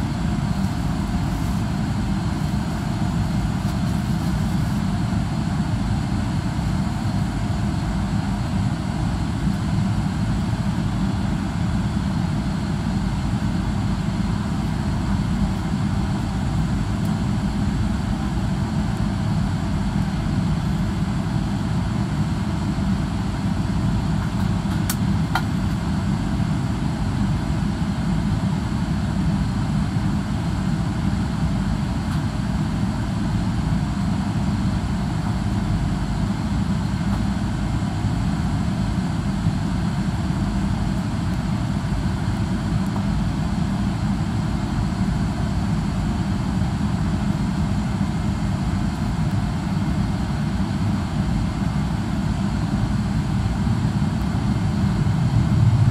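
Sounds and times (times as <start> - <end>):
airplane cabin engine noise: 0.0 - 55.9.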